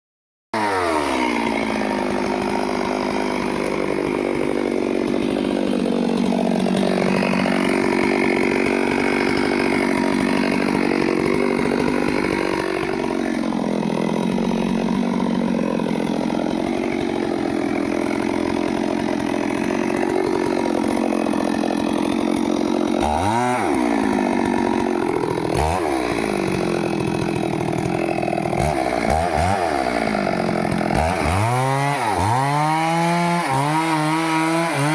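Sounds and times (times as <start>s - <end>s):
chainsaw cutting wood: 0.6s - 34.9s.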